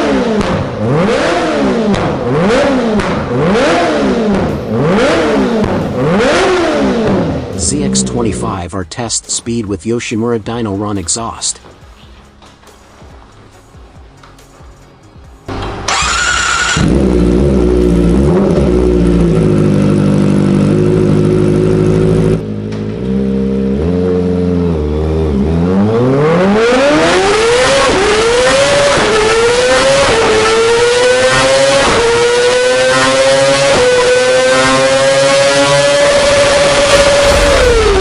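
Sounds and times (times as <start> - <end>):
motorcycle engine accelerating: 0.0 - 8.6, 15.5 - 38.0.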